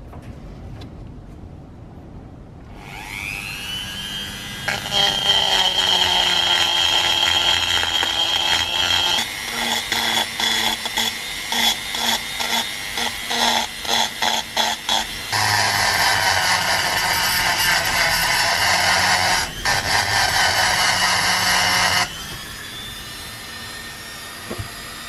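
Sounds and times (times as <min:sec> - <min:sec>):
rotary tool grinding steel: 0:02.7 - 0:24.4.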